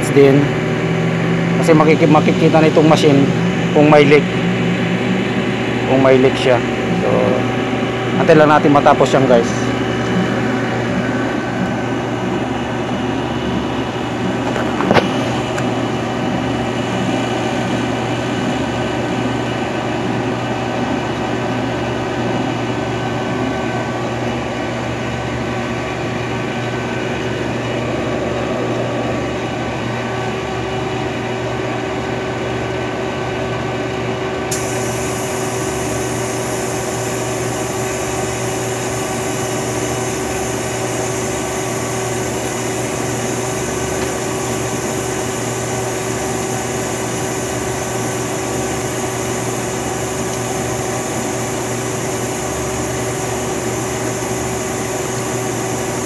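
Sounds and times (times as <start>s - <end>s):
vacuum pump humming: 0.0s - 56.0s.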